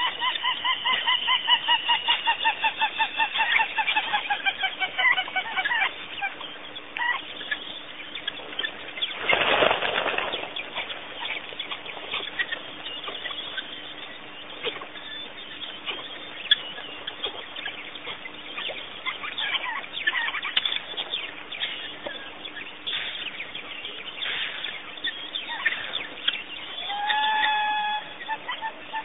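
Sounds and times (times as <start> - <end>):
bird chirps and calls: 0.0 - 29.0.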